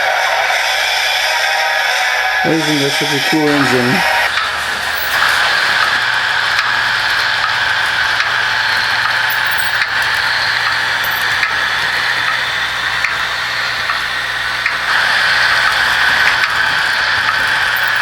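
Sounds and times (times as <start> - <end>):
model train motor whir: 0.0 - 18.0.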